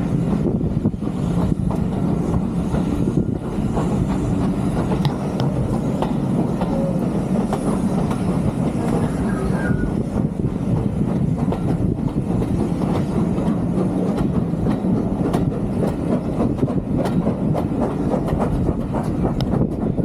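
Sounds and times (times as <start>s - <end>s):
steam train rumble: 0.0s - 20.0s
wheels clicking over rails: 0.2s - 20.0s.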